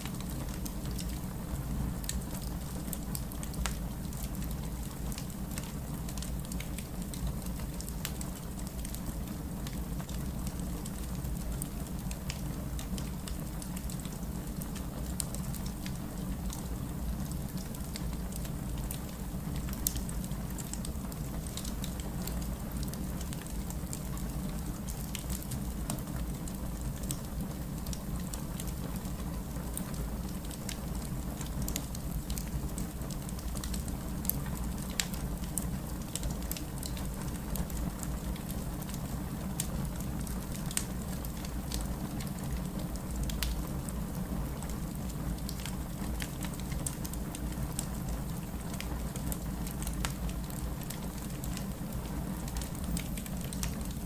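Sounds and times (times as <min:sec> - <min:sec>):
fire crackles and pops: 0:00.0 - 0:54.0
low rumble of flames: 0:00.0 - 0:54.0.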